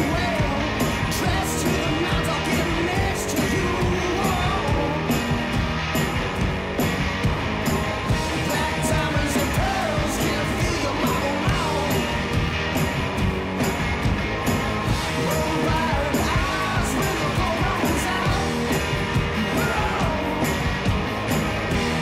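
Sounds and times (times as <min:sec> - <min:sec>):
rock music with singing: 0:00.0 - 0:22.0.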